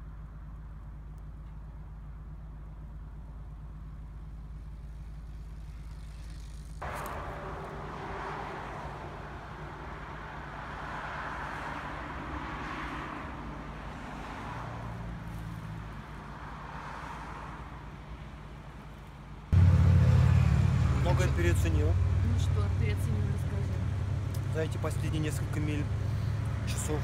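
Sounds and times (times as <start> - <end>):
cars passing on road: 0.0 - 27.0.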